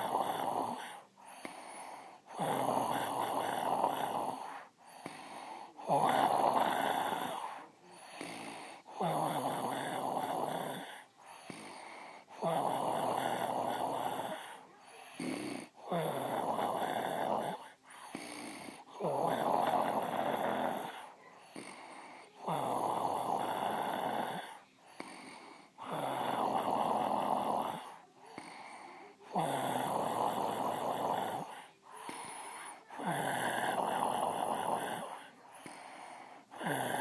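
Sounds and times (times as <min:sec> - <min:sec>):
quiet breaths: 0:00.0 - 0:37.0
woman snoring: 0:00.0 - 0:37.0.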